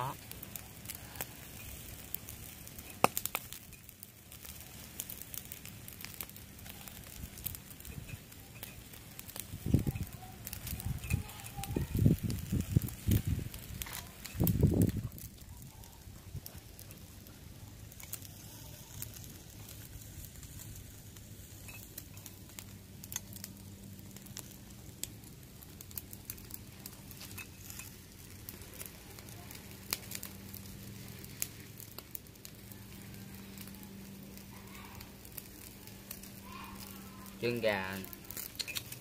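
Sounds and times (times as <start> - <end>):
charcoal fire popping and crackling: 0.0 - 39.0
faint sizzle on grill: 0.0 - 39.0.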